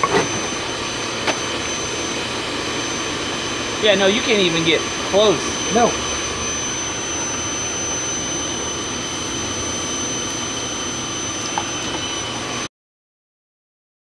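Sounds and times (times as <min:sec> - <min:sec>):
electric blower running: 0:00.0 - 0:12.7.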